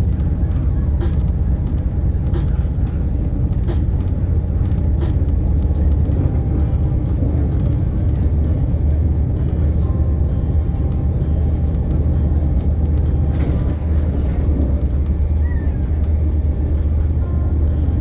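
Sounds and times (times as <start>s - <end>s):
passenger train rumbling: 0.0s - 18.0s.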